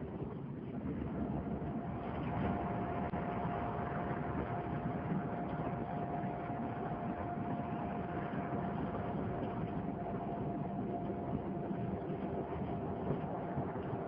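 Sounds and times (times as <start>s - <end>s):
constant whine: 0.0s - 14.0s
vehicle engine rumble: 0.0s - 14.0s.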